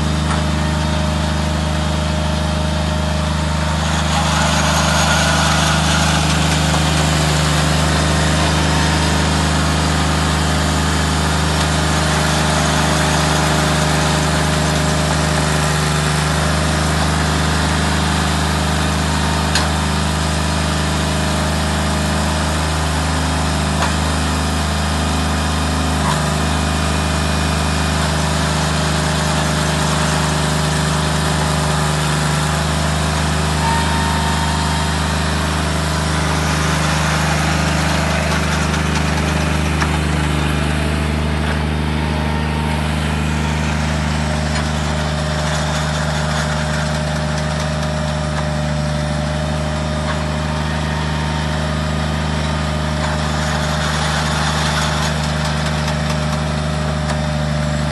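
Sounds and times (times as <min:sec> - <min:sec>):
aerator engine running: 0:00.0 - 0:57.9.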